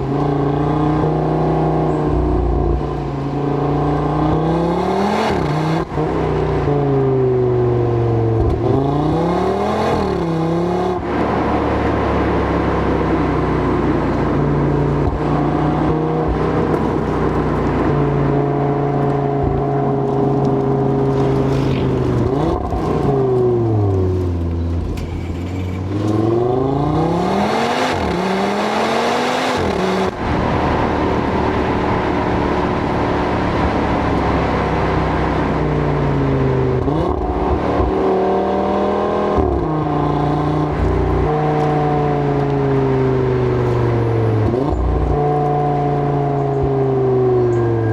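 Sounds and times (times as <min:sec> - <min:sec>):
car engine revving through gears: 0:00.0 - 0:47.9.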